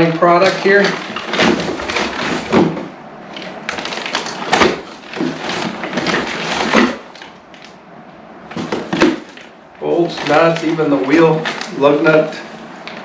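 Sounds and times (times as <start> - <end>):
cardboard packaging rustling: 0.0 - 7.8, 8.5 - 13.0.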